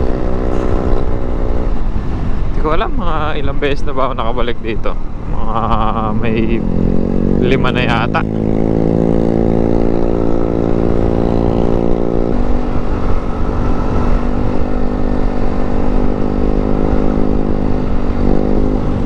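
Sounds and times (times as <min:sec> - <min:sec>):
low rumbling noise: 0:00.0 - 0:15.3.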